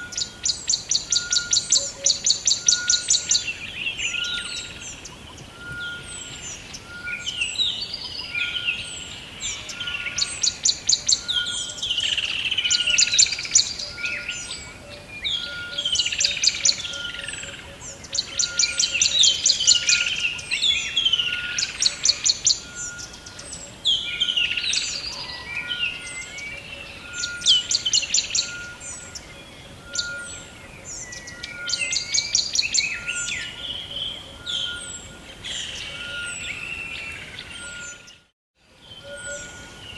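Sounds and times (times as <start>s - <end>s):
forest bird chorus: 0.0s - 39.9s.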